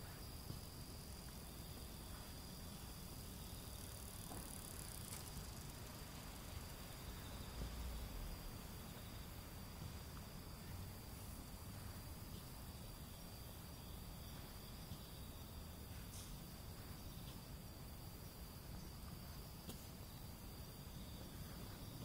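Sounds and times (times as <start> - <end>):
high-pitched insect trill: 0.0 - 22.0.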